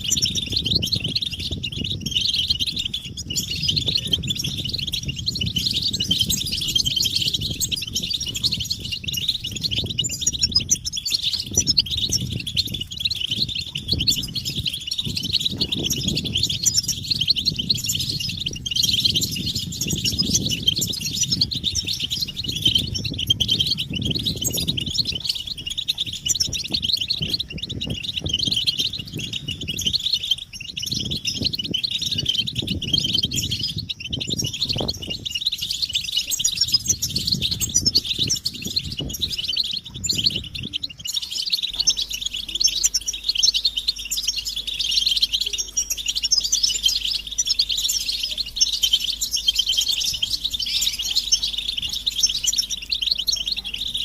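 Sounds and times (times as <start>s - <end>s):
finches twittering chorus: 0.0s - 54.0s
low rumbling noise: 0.0s - 54.0s.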